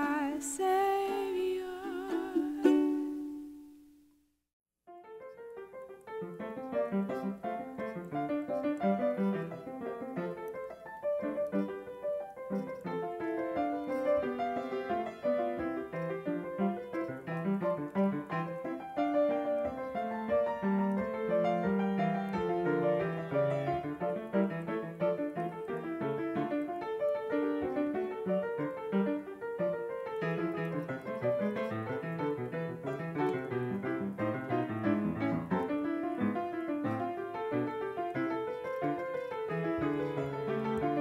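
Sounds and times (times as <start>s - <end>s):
piano music: 0.0s - 3.6s, 4.9s - 41.0s.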